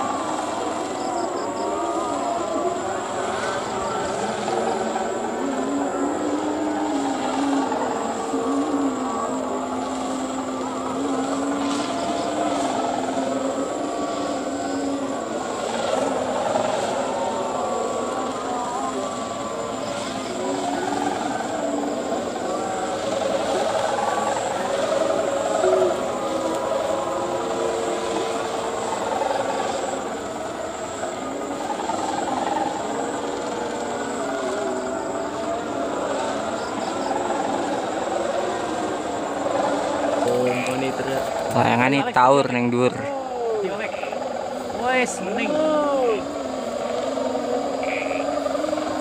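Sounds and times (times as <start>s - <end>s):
kite hummers droning in wind: 0.0s - 49.0s.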